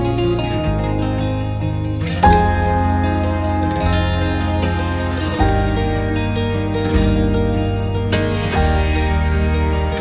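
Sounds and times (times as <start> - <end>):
plucked guitar: 0.0 - 10.0
steady bass line: 0.0 - 10.0.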